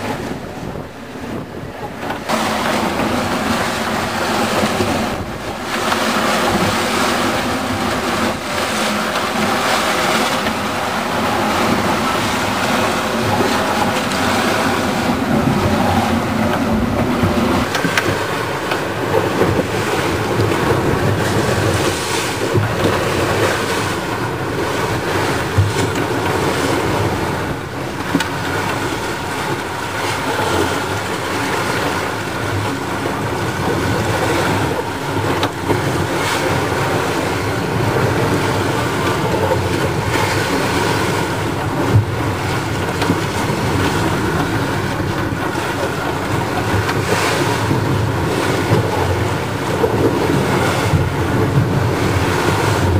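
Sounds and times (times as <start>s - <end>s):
water rushing past hulls: 0.0s - 52.9s
water slapping against hull: 0.0s - 52.9s
wind: 0.0s - 52.9s.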